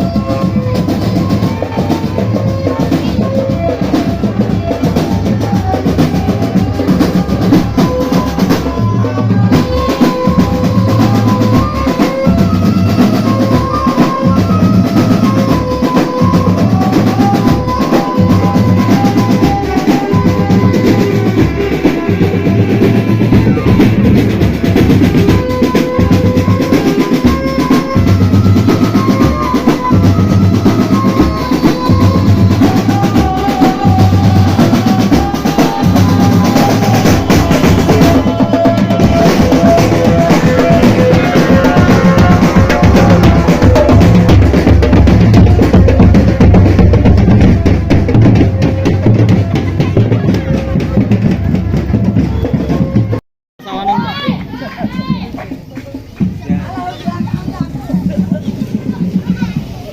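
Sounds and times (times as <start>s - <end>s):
bass drums: 0.0s - 59.9s
snare drums: 0.0s - 59.9s.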